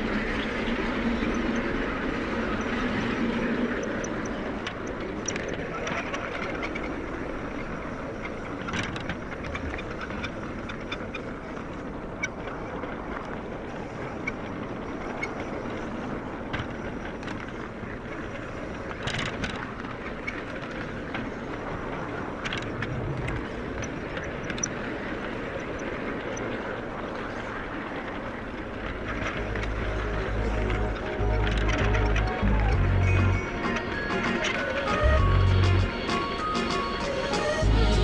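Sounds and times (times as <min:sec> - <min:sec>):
sharp clicks of train wheels: 0:00.0 - 0:32.2.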